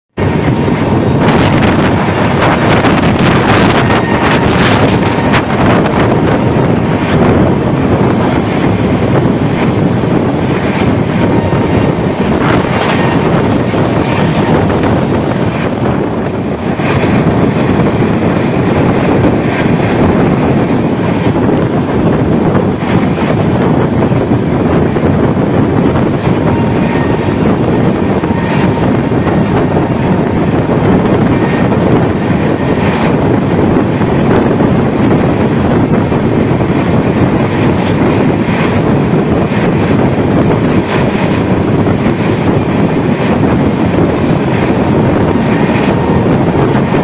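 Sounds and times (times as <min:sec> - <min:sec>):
train wheels rumbling on rails: 0:00.1 - 0:47.0
wind buffeting microphone: 0:00.1 - 0:47.0.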